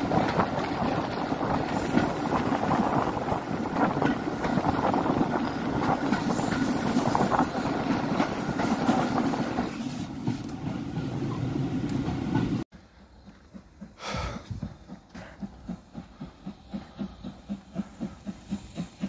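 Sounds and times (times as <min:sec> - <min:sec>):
train wheels rumbling and clattering: 0:00.0 - 0:19.0.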